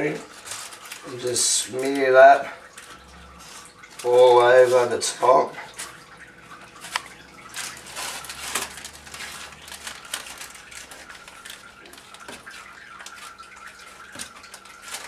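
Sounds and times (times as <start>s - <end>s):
baking paper crinkling: 0.0s - 15.0s.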